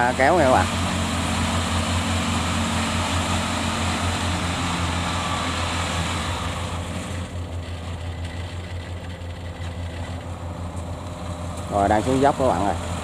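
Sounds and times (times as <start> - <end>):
small tractor engine humming: 0.0 - 13.0.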